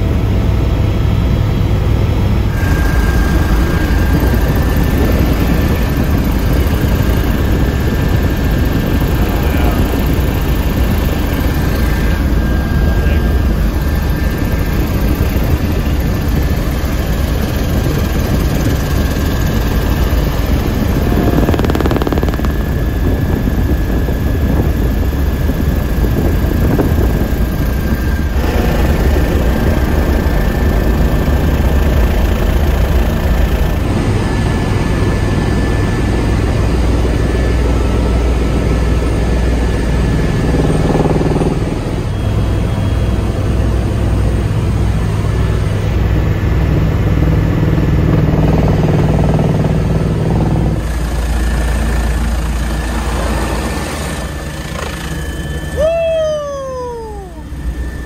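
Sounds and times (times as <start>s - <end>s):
helicopter rotor drone: 0.0s - 58.0s
turbine whine: 0.0s - 58.0s.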